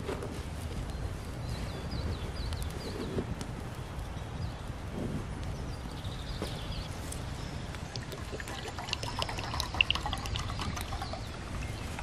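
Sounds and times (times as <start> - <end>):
campfire crackling: 0.0 - 12.0
fire low rumble: 0.0 - 12.0.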